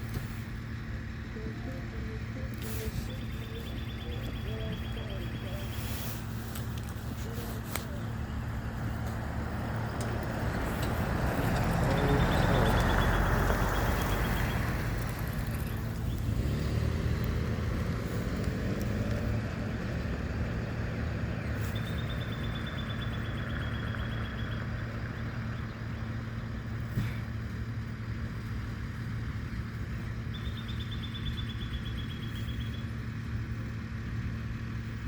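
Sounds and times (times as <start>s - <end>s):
truck engine humming: 0.0s - 35.0s.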